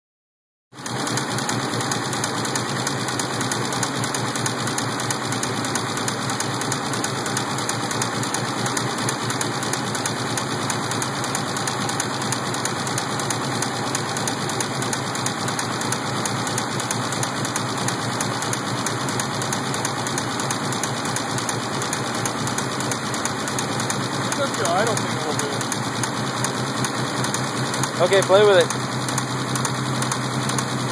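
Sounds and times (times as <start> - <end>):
engine idling: 0.8 - 30.9
fast regular engine knocking: 0.8 - 30.9.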